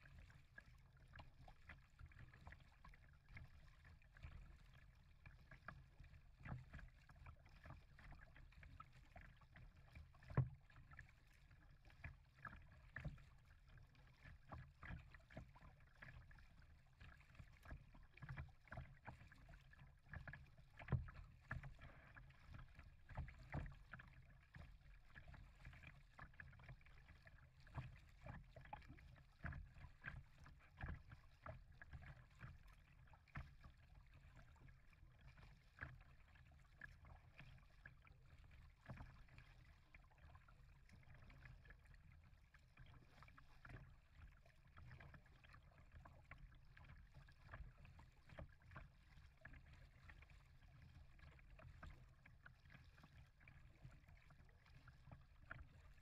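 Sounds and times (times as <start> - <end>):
water lapping against kayak hull: 0.0 - 56.0.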